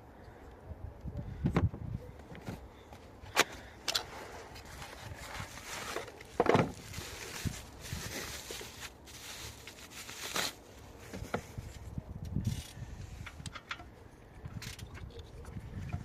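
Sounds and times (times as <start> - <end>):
clicks and scrapes of car parts: 2.2 - 7.4, 8.0 - 16.0.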